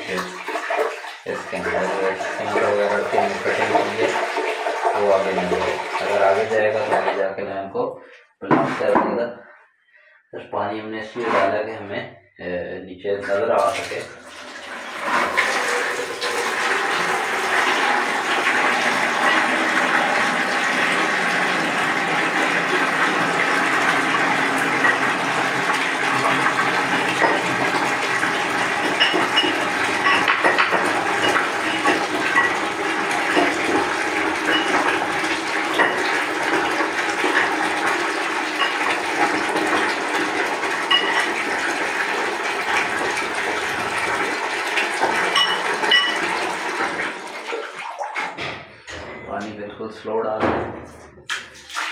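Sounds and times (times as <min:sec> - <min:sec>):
water running into toilet pan: 0:00.0 - 0:09.3, 0:11.0 - 0:11.7, 0:13.2 - 0:49.5, 0:50.8 - 0:51.9.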